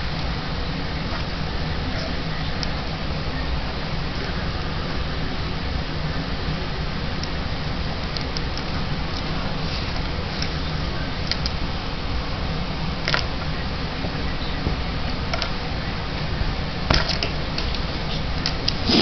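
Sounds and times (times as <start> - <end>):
background hiss and rumble: 0.0 - 19.0.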